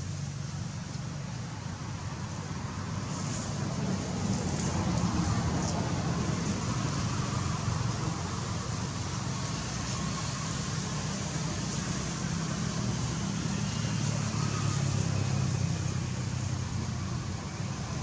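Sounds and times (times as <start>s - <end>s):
hiss: 0.0s - 17.9s.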